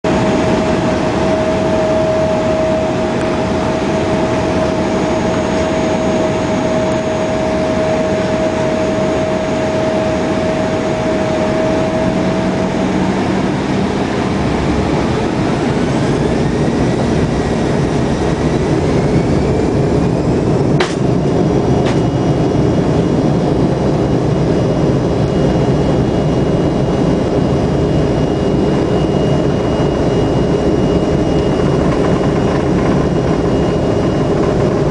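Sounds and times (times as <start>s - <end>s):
jet engines rumbling: 0.0s - 34.9s
jet engine whine rising: 0.1s - 34.9s.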